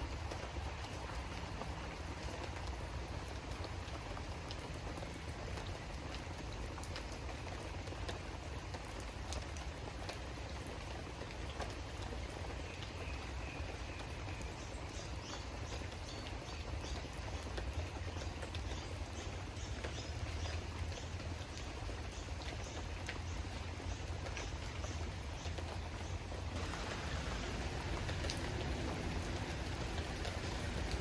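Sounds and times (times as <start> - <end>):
rain drops pattering: 0.0 - 31.0.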